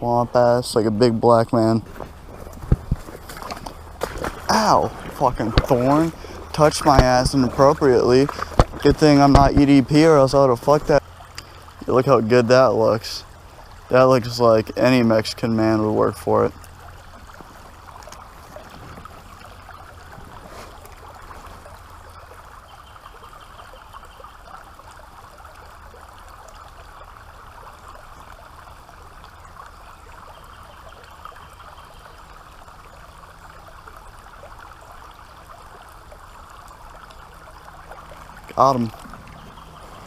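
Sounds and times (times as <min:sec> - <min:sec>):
creek water trickling: 0:00.0 - 0:40.0.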